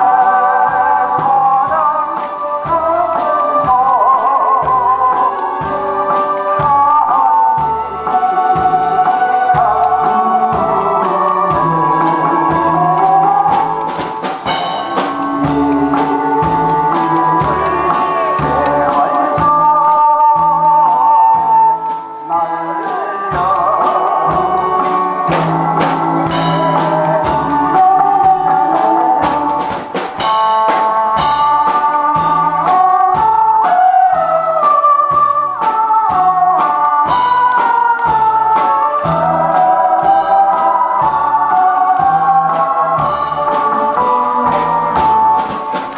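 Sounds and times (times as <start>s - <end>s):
man singing into microphone: 0.0s - 13.9s, 14.5s - 37.9s
instrumental music with beat: 0.0s - 45.9s.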